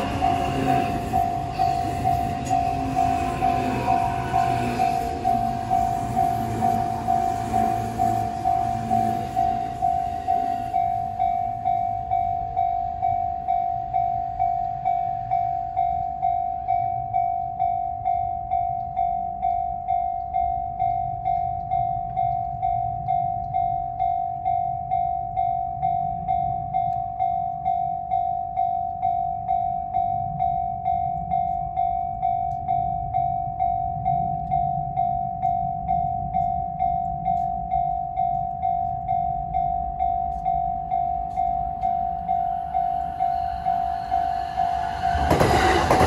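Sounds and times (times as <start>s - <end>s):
level crossing warning bell: 0.0s - 46.0s
train passing: 0.0s - 46.0s.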